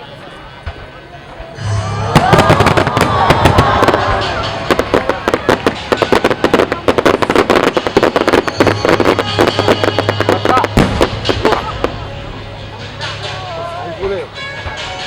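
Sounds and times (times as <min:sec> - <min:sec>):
fireworks bursts and crackling: 0:00.5 - 0:13.4.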